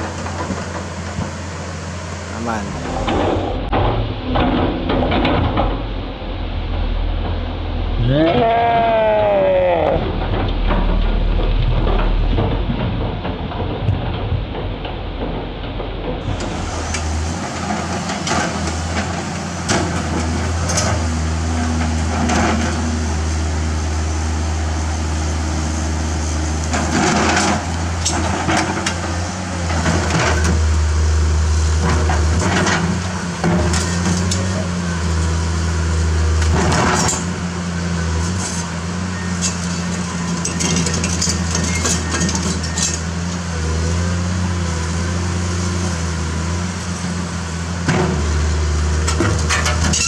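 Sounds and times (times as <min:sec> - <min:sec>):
excavator diesel engine under load: 0:00.0 - 0:50.0.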